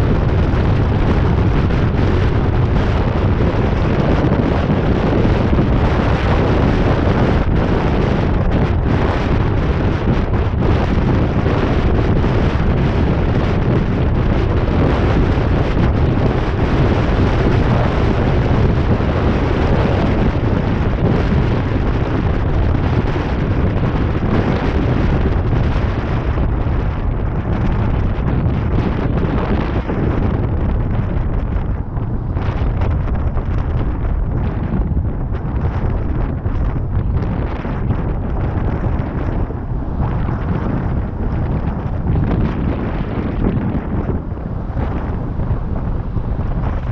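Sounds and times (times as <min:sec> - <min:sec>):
road noise: 0:00.0 - 0:46.9
wind buffeting microphone: 0:00.0 - 0:46.9.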